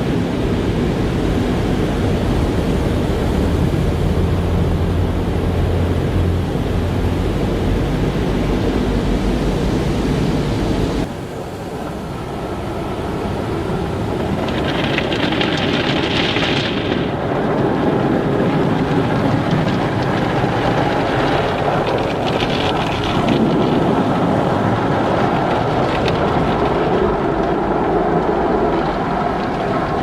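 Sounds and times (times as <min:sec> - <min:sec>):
car wash water spray and machinery: 0:00.0 - 0:30.0.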